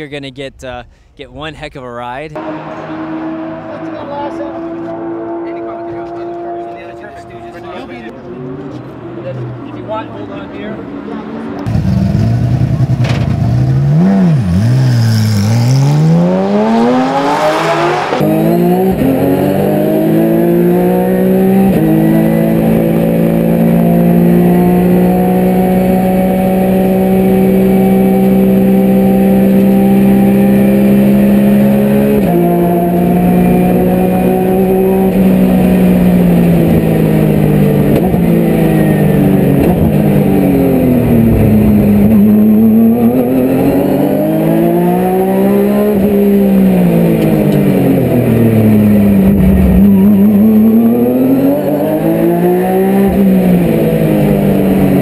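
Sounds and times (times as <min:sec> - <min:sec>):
race car engine at full throttle: 0:02.3 - 0:55.0.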